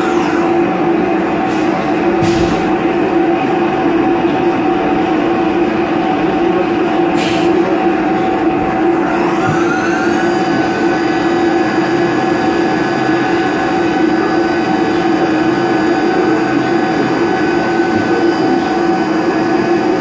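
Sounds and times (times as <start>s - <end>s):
cutter milling aluminium: 0.0s - 3.0s, 6.9s - 20.0s
mill spindle whining: 0.0s - 20.0s.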